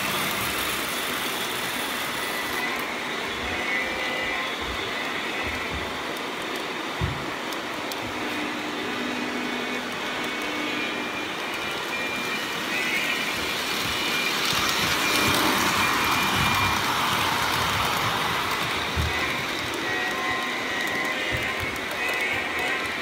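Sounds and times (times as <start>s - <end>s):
model train wheels rumbling: 0.0s - 23.0s.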